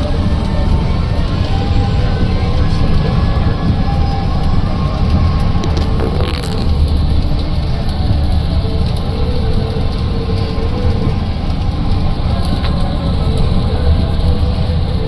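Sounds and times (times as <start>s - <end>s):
faint hum: 0.0s - 15.0s
low rumble inside vehicle: 0.0s - 15.0s.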